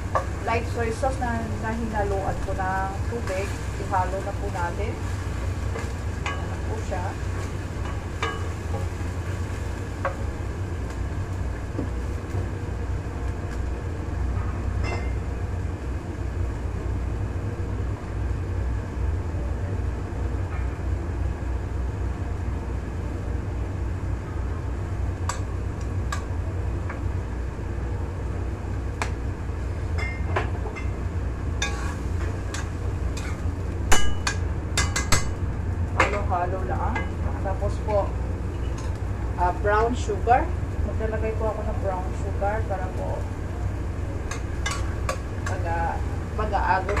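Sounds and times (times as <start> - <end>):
meat cooking in a pan: 0.0 - 47.0.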